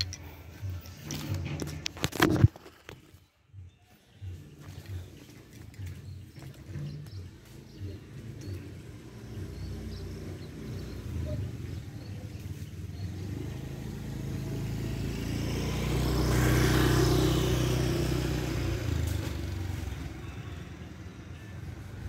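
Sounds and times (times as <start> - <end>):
vehicle engine passing by: 4.2 - 22.0.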